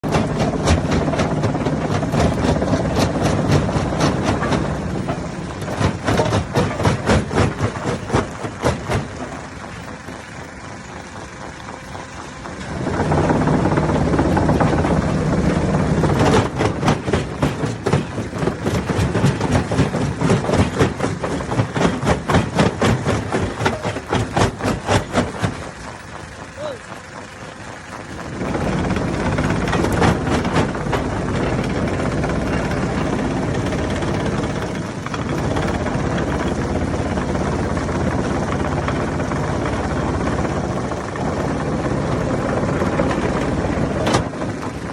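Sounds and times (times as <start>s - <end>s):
low drone of stone crusher: 0.0s - 44.9s.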